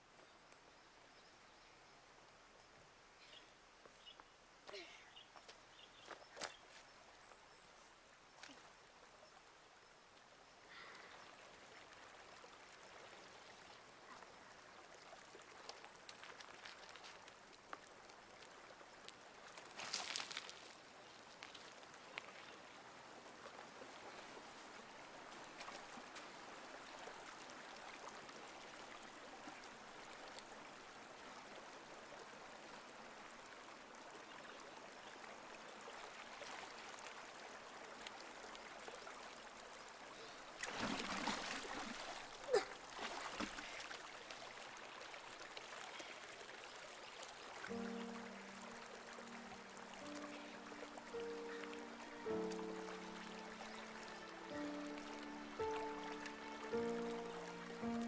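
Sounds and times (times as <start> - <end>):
stream water over rocks: 0.0 - 58.0.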